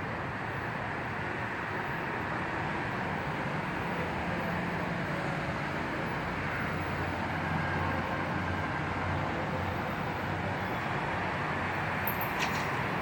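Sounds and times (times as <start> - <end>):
vehicle rumble and hiss: 0.0 - 13.0.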